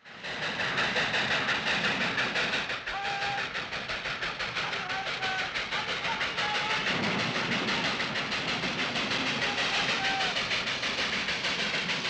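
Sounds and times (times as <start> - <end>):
steam locomotive running: 0.0 - 12.0.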